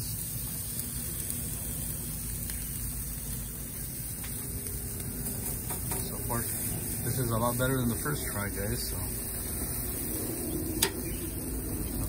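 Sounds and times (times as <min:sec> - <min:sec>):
steaks sizzling on a grill: 0:00.0 - 0:12.0.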